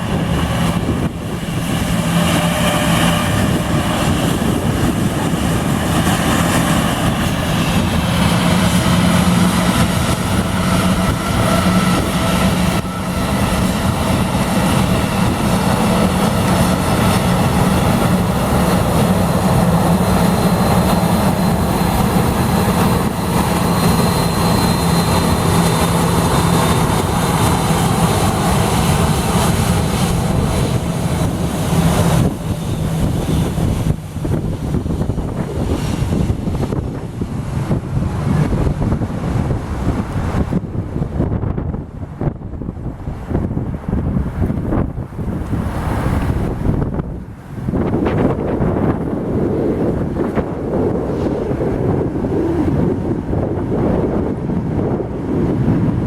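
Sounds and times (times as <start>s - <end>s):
airliner engines droning: 0.0s - 56.0s.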